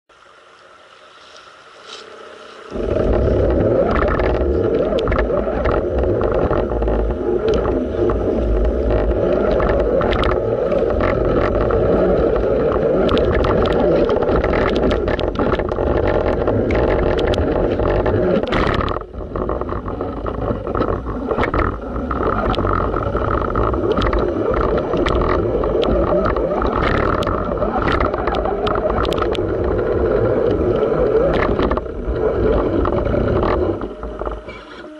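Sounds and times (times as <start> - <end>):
water splashing: 0.1 - 34.9
electric motor and drivetrain: 0.2 - 34.9
rocks clattering under tyres: 2.7 - 34.8.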